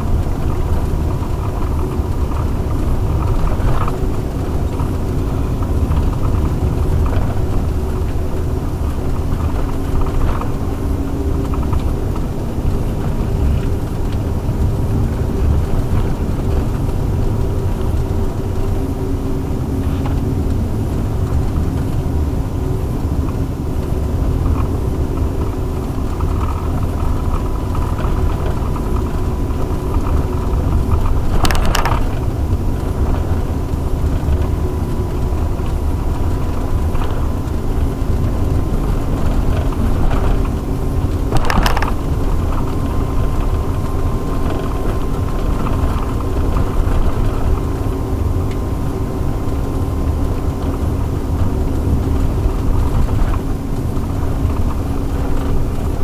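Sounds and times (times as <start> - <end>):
tyre and road rumble: 0.0 - 56.0.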